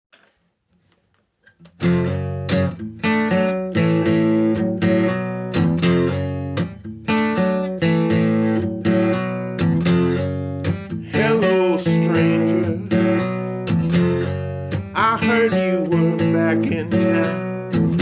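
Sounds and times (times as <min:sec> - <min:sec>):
acoustic guitar strumming: 0:01.6 - 0:18.0.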